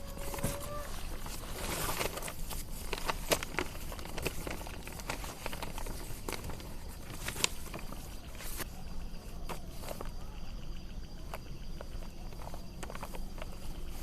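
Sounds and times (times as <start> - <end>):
rustling of dry leaves: 0.0 - 14.0.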